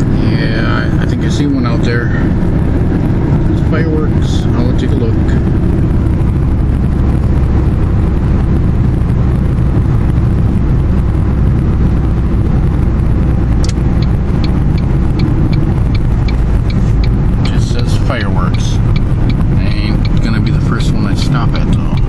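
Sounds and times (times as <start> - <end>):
car road and engine noise: 0.0 - 22.0
light regular ticking: 0.9 - 22.0.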